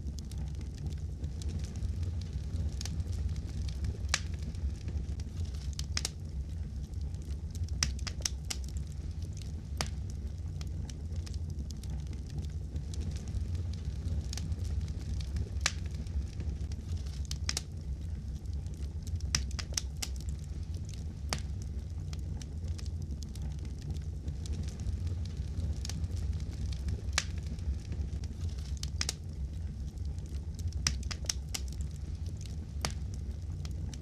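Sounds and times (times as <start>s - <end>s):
low rumble of flames: 0.0s - 34.0s
wood fire pops and snaps: 0.0s - 34.0s.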